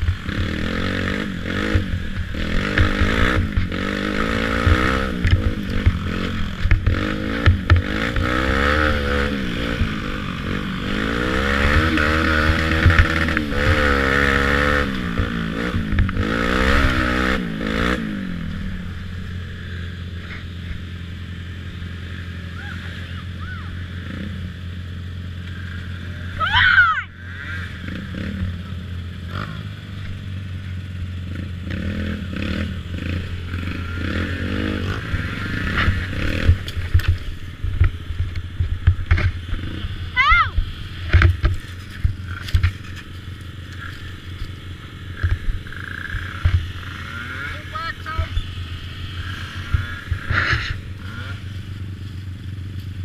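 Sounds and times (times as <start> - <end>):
atv engine revving and idling: 0.0 - 53.0.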